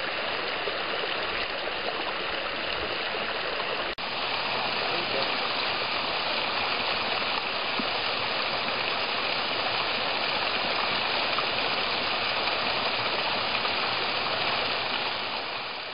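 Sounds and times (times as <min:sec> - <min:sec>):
small waterfall pouring into pool: 0:00.0 - 0:15.9.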